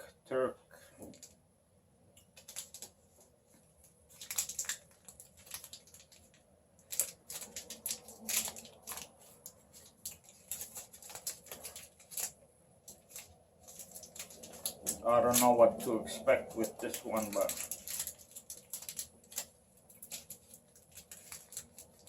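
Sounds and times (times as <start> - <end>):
candy wrapper crinkling: 2.2 - 3.0, 3.7 - 22.0.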